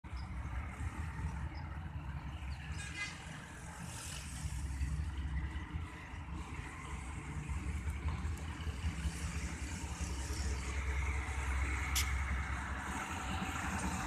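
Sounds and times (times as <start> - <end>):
distant diesel locomotive rumble: 0.1 - 14.0.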